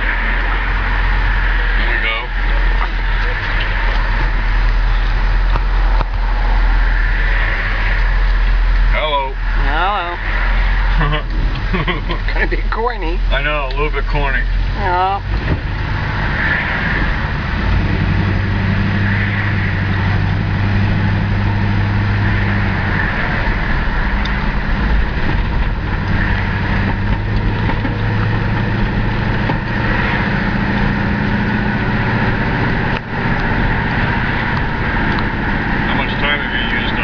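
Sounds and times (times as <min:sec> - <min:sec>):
car engine drone: 0:00.0 - 0:37.0.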